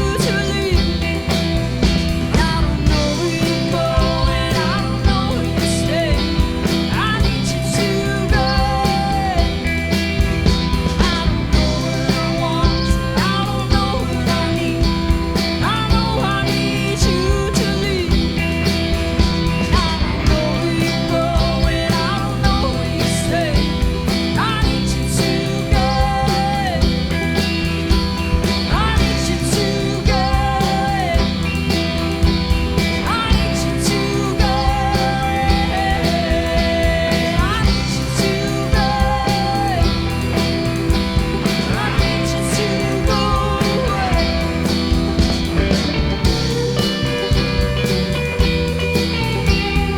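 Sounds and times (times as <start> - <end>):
band playing instrumental: 0.0 - 49.9
sliding lead melody: 0.0 - 49.9.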